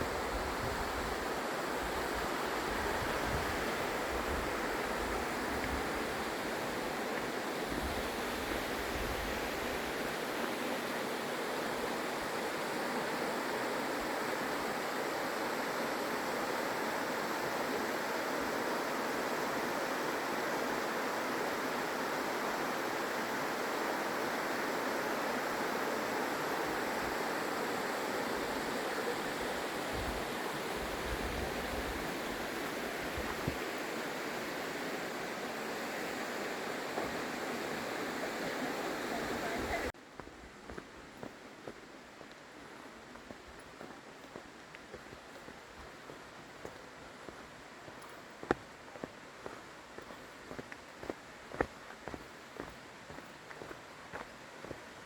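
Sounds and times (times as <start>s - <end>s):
rushing mountain water: 0.0s - 55.0s.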